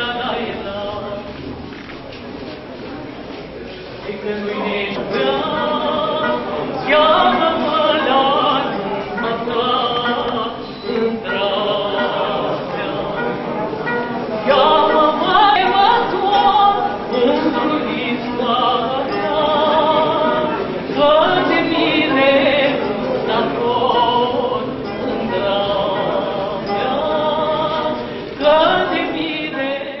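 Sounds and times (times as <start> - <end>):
woman singing folk song: 4.2 - 13.3, 14.4 - 30.0
plucked lute: 4.2 - 30.0.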